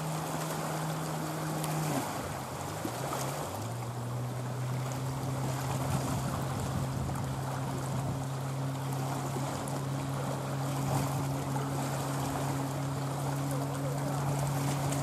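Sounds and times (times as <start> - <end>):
low motor hum: 0.0 - 15.0
small waves lapping: 0.0 - 15.0.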